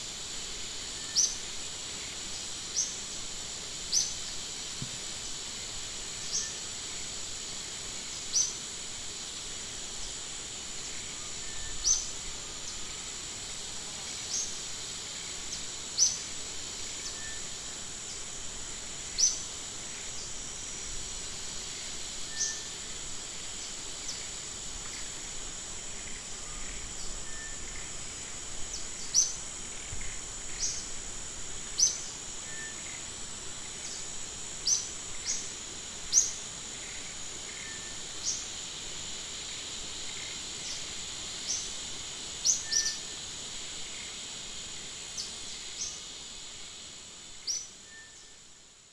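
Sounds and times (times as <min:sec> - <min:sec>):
high-pitched insect drone: 0:00.1 - 0:48.9.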